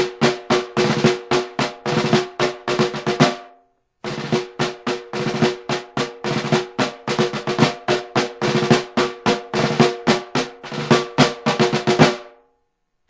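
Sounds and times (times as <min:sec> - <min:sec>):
snare drum marching cadence: 0:00.0 - 0:12.4.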